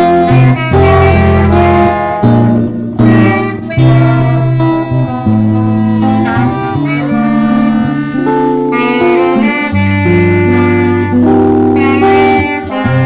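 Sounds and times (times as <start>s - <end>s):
horn melody: 0.0s - 13.0s
small band playing: 0.0s - 13.0s.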